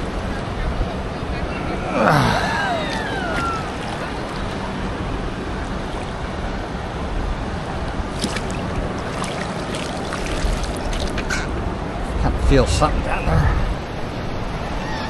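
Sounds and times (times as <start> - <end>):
ocean surf rushing: 0.0 - 15.0
wind rumble on microphone: 0.0 - 15.0.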